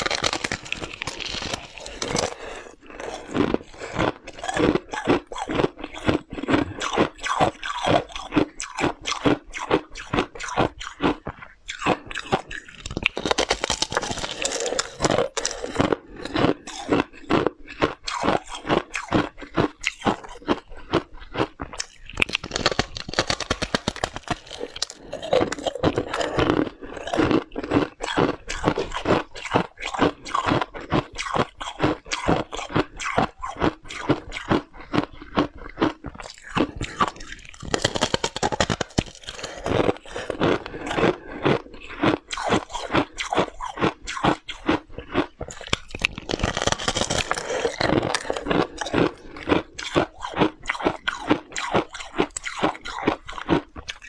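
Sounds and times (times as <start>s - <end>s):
frost crunching while chewed: 0.0s - 54.0s.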